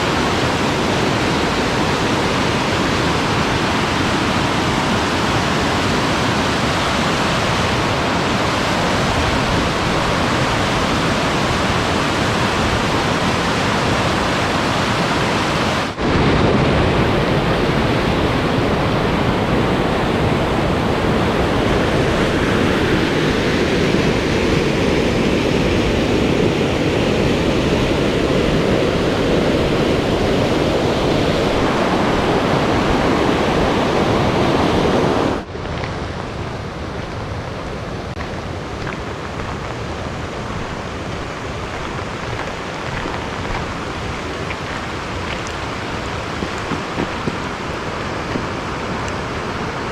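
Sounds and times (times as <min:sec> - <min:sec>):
fast-flowing water rushing: 0:00.0 - 0:49.9.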